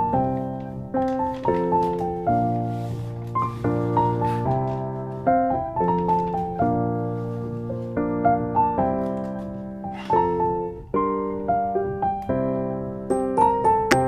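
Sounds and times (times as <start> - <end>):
gentle piano notes: 0.0 - 14.0.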